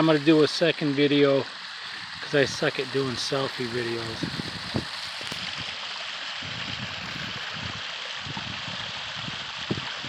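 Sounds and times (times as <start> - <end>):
waterfall splashing over rocks: 0.0 - 10.0.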